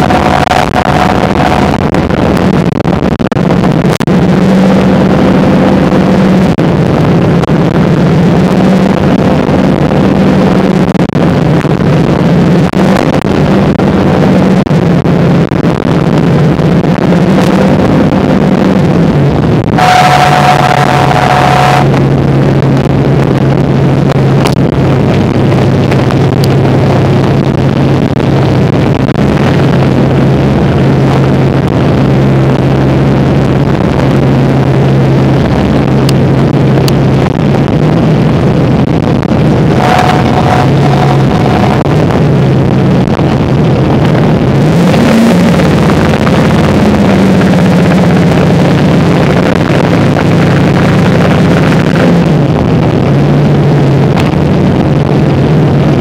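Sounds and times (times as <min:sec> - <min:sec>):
boat engines running: 0:00.0 - 0:56.0
heavy wind: 0:00.0 - 0:56.0
sea noise: 0:00.0 - 0:56.0.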